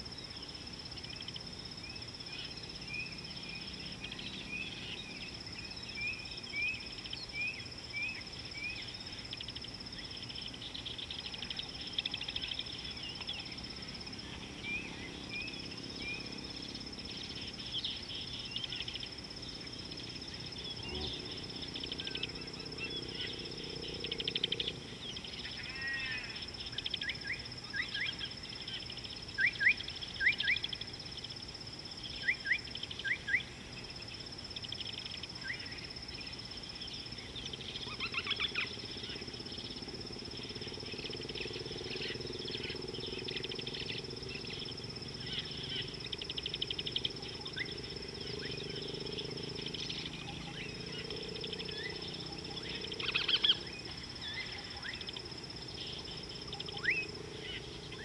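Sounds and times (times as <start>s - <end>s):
high insect whine: 0.0s - 58.0s.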